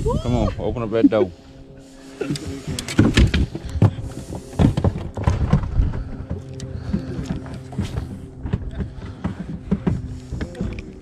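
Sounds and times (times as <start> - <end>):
steady low hum: 0.0 - 11.0
knocks and thumps in a boat: 2.2 - 11.0.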